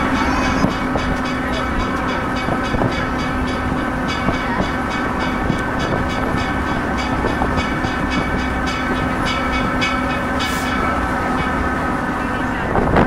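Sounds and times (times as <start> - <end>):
engine drone: 0.0 - 13.0
regular rail clicking: 0.0 - 13.0
train running rumble on track: 0.0 - 13.0.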